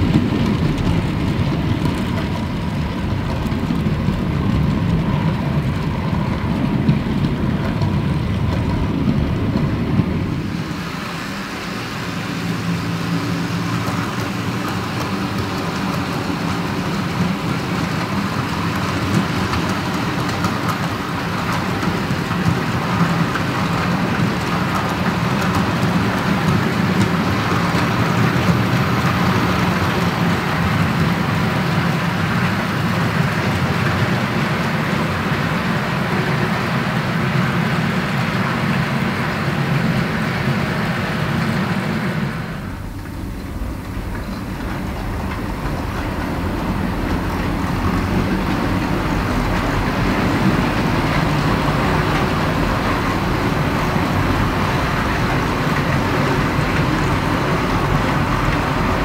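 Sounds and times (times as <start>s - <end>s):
model train motors whirring: 0.0s - 59.0s
wheels rolling over rails: 0.0s - 59.0s.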